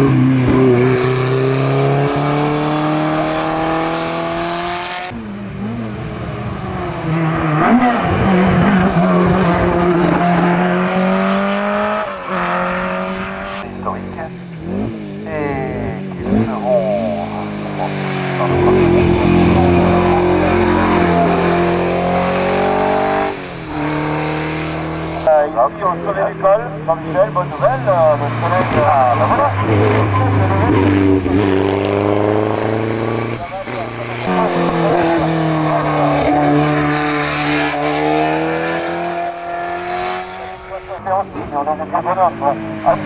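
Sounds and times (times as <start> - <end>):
racing car engine passing: 0.0 - 43.0.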